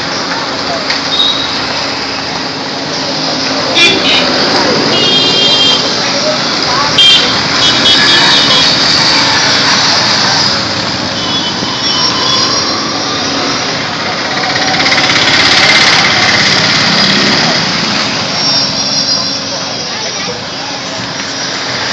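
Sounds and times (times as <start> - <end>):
motorcycles riding past: 1.5 - 19.5.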